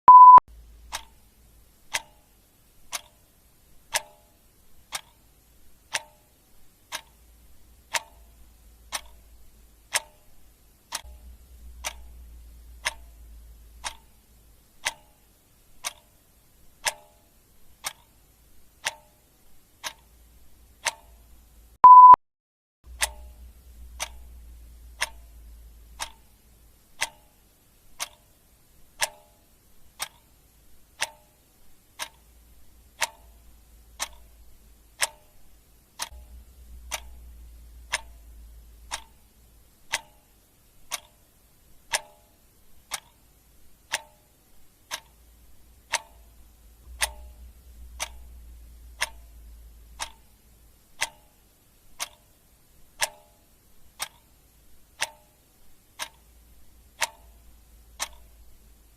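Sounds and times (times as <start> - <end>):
clock ticking: 0.1 - 22.2, 22.9 - 58.9.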